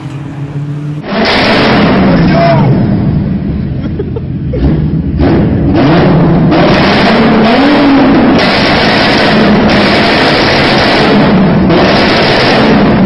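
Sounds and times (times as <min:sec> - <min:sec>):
turbo car engine revving: 0:00.0 - 0:13.0.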